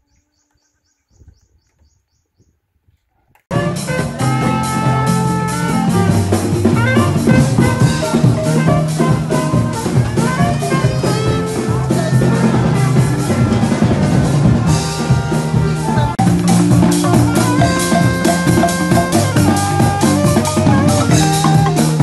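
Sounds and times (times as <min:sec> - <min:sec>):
background music: 0:03.5 - 0:22.0
drum kit beat: 0:03.5 - 0:22.0.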